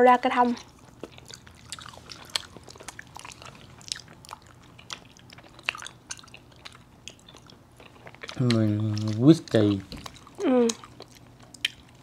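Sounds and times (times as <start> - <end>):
faint wet chewing: 0.5 - 12.0.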